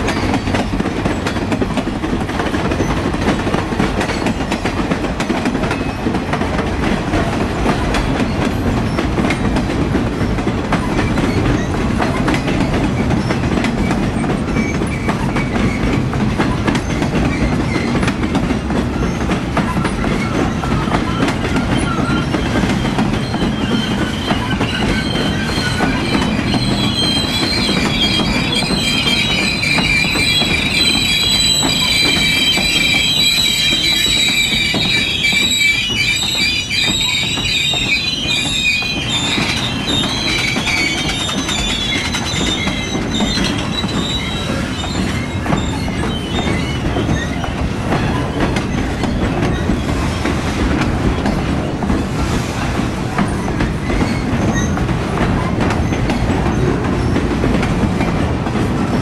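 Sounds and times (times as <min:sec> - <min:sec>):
wheels squealing on rail: 0:00.0 - 0:06.6, 0:07.2 - 0:59.0
train wheels rumbling on rails: 0:00.0 - 0:59.0.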